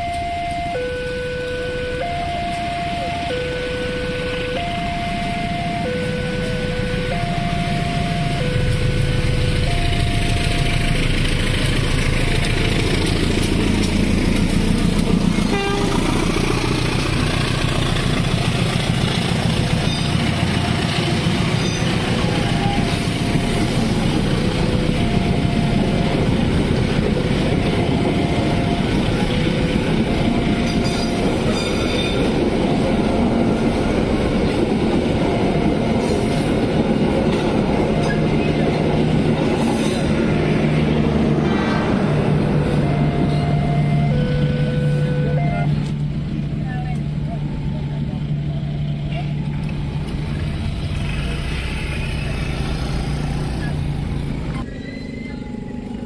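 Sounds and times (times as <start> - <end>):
crossing warning alarm tone: 0.0 - 51.1, 54.6 - 56.0
train rumbling and clattering: 2.4 - 56.0.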